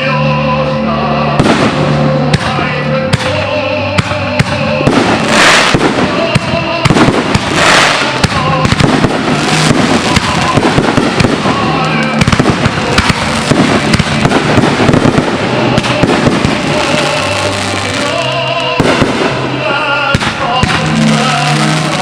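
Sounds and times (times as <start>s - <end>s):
music playing: 0.0s - 22.0s
fireworks bangs and crackles: 1.4s - 22.0s.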